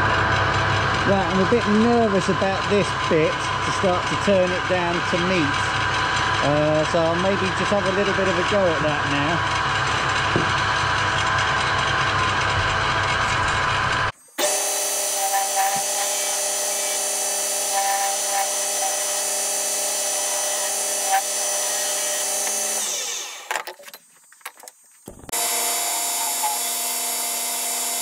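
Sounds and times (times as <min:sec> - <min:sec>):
woodworking lathe motor hum: 0:00.0 - 0:23.7, 0:25.1 - 0:28.0
gouge scraping spinning wood: 0:00.2 - 0:23.5, 0:25.0 - 0:28.0.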